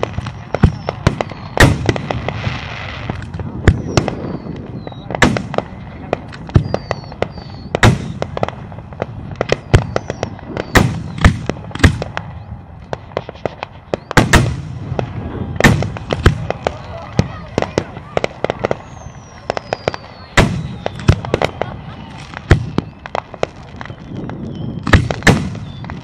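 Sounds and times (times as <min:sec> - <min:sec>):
faint firework whistles: 0:00.0 - 0:26.0
fireworks booming: 0:00.0 - 0:26.0
fireworks crackling pops: 0:00.0 - 0:26.0.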